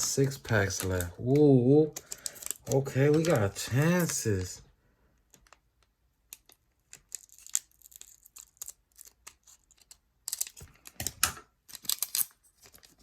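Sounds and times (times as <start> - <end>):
foil packs crinkling: 0.0 - 4.5, 7.1 - 13.0
cards being handled: 0.0 - 4.6, 5.2 - 13.0.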